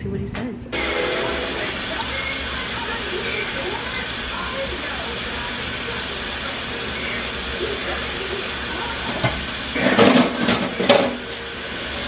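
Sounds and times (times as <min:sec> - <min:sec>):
steady hiss: 0:00.8 - 0:12.0.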